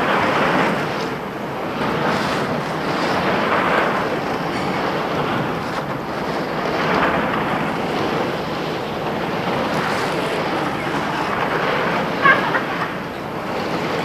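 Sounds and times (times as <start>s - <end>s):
fabric rubbing on microphone: 1.7s - 14.0s.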